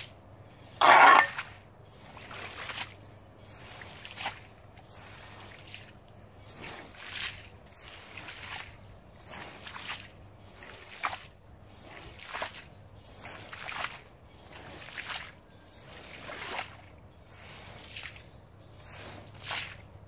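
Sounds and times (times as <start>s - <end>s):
scrub brush on wet carpet: 0.0s - 20.0s.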